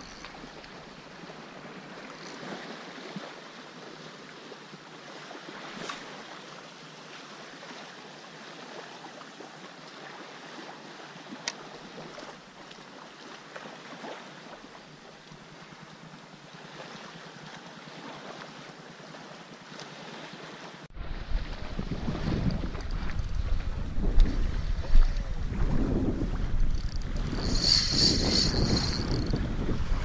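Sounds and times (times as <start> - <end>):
sea water lapping and splashing: 0.0 - 30.0.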